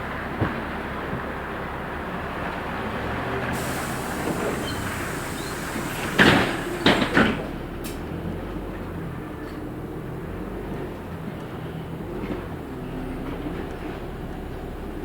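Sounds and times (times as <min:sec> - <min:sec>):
bus running and road noise: 0:00.0 - 0:15.0.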